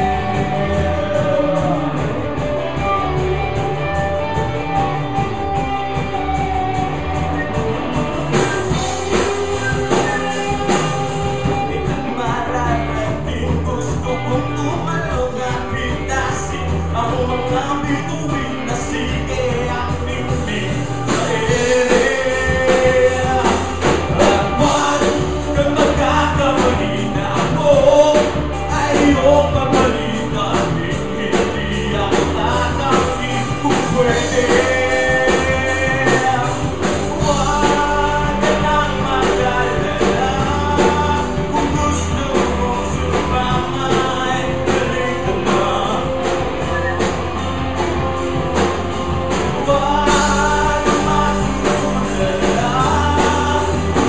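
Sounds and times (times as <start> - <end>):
live rock band playing: 0.0 - 54.0
man singing: 0.0 - 54.0.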